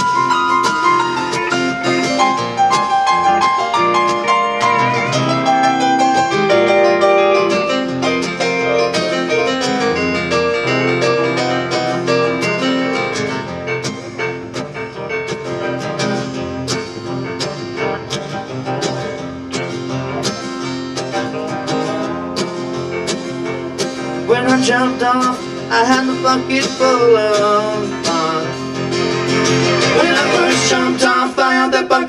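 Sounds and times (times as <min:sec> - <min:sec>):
acoustic guitar: 0:00.0 - 0:32.0
country band playing: 0:00.0 - 0:32.0
keyboard piano: 0:00.0 - 0:32.0.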